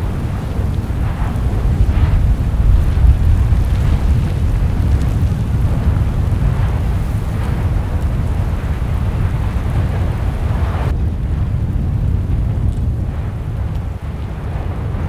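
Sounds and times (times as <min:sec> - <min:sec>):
deep rumble of volcanic vent: 0:00.0 - 0:15.0.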